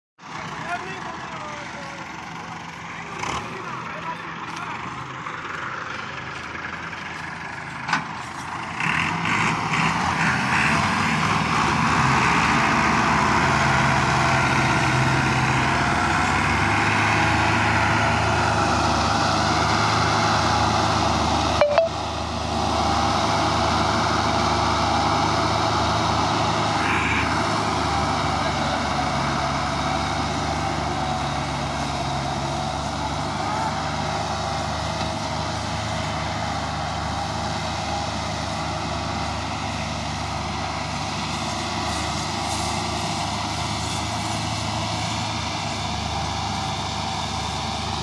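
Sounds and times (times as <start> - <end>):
tractor engines under load: 0.2 - 48.0.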